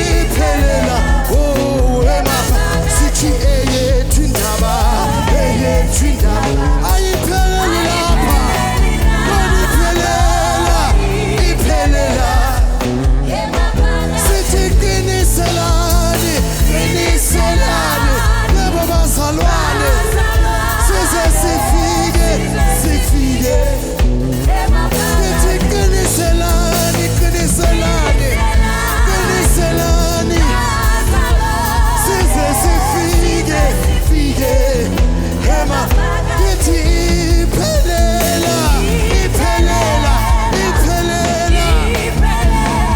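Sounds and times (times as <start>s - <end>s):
gospel band playing: 0.0s - 42.9s
low bass: 0.0s - 42.9s
voices singing: 0.0s - 42.9s.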